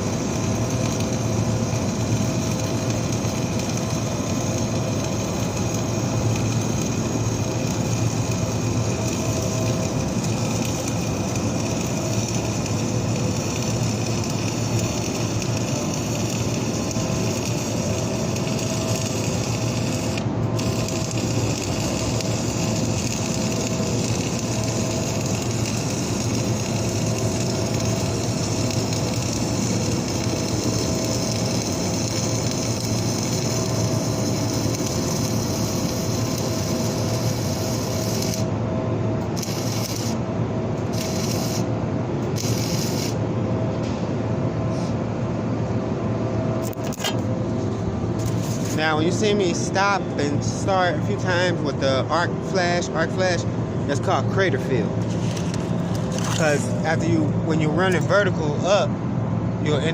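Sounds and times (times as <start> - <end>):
crackling welding arc: 0.0 - 38.6, 39.2 - 43.2, 48.2 - 58.7.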